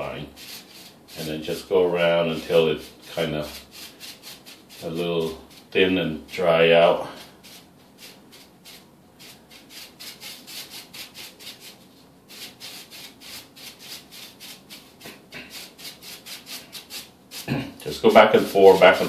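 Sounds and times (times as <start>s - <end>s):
paintbrush swishing on a wall: 0.0s - 19.0s.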